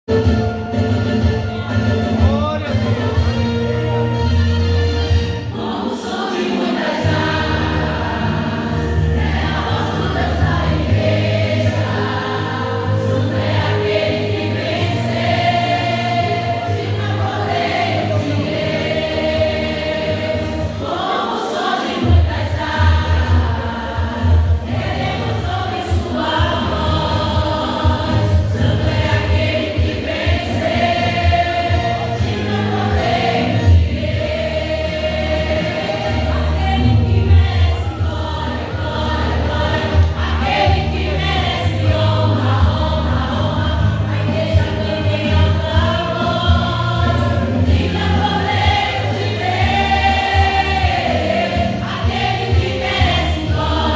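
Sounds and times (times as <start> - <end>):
instrumental backing with bass: 0.1 - 5.6, 7.0 - 20.9, 22.1 - 53.9
choir singing a gospel hymn: 0.1 - 53.9.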